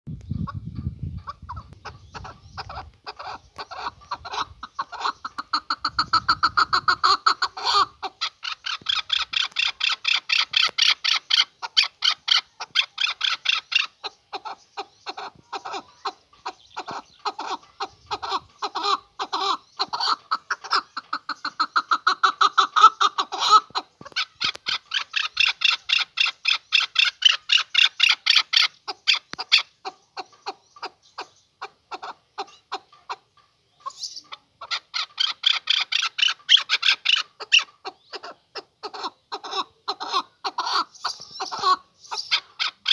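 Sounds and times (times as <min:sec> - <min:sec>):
partridge clucking calls: 0:00.1 - 0:42.9.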